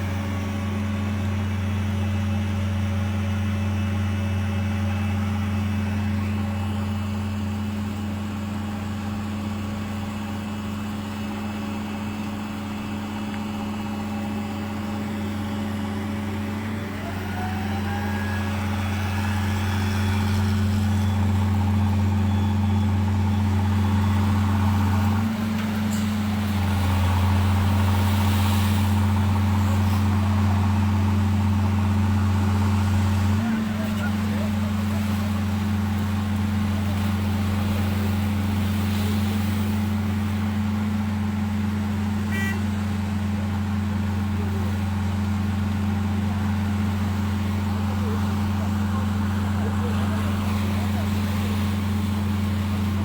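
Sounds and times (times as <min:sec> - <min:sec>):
large vehicle engine humming: 0:00.0 - 0:53.0.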